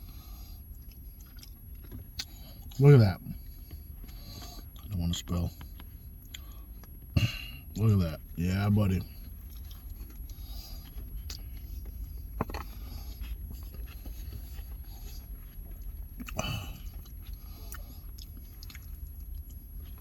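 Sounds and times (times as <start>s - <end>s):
chewing and eating: 0.0s - 20.0s
low steady hum: 0.0s - 20.0s.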